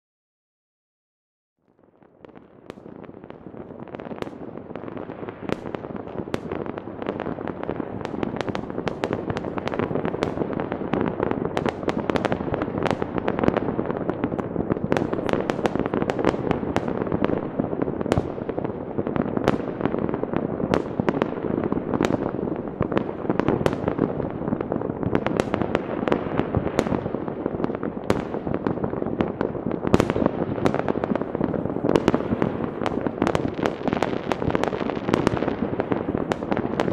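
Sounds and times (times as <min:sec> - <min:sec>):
distant fireworks crackling and banging: 0:01.8 - 0:36.9.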